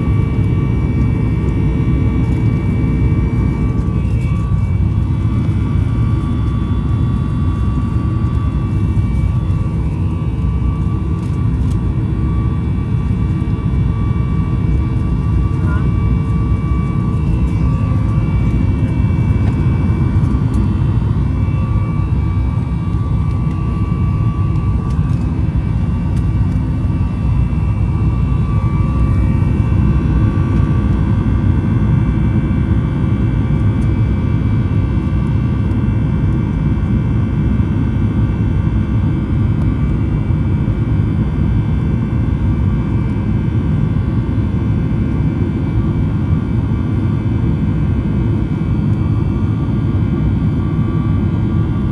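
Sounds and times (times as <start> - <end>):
jet cabin engine rumble: 0.0 - 51.9.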